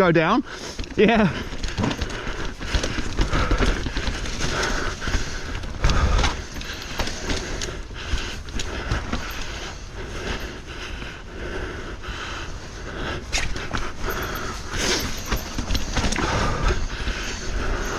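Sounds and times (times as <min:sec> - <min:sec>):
bike tyre and frame rattle: 0:00.4 - 0:17.9.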